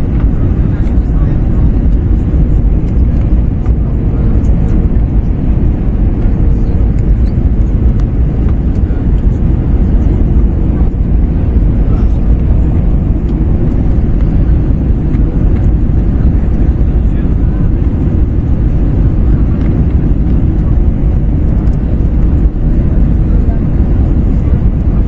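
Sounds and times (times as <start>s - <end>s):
airliner cabin rumble: 0.0s - 25.0s.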